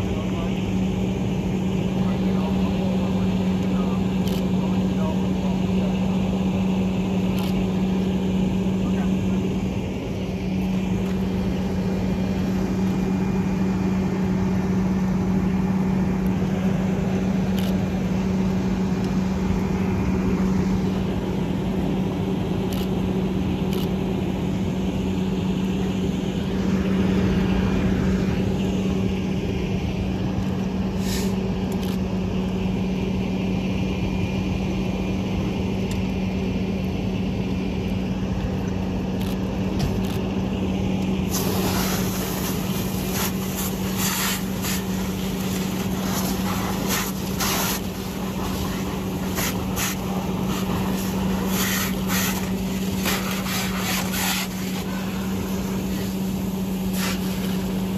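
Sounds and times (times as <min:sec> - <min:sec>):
fire engine pump engine drone: 0:00.0 - 0:57.9.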